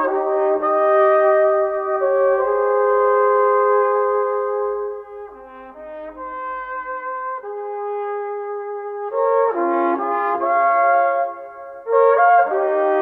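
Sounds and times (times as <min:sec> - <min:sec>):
brass playing slow held chords: 0:00.0 - 0:13.0.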